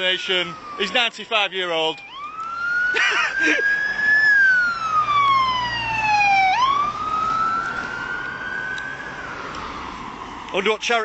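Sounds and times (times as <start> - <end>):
siren wailing: 0.0 - 10.3.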